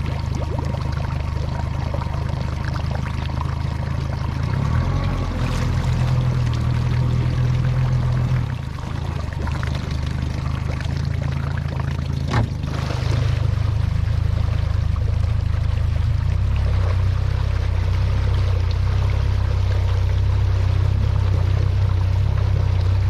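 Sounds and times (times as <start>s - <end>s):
boat motor running: 0.0s - 23.0s
water splashing along hull: 0.0s - 23.0s.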